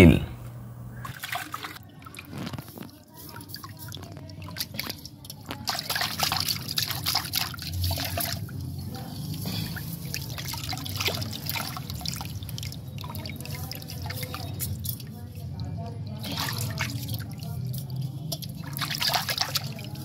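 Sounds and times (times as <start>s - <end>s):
muddy water sloshing and pouring: 1.0s - 20.0s.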